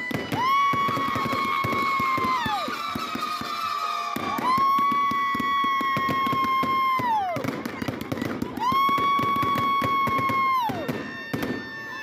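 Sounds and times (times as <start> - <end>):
firework whistles: 0.0 - 12.0
fireworks crackling and popping: 0.0 - 12.0.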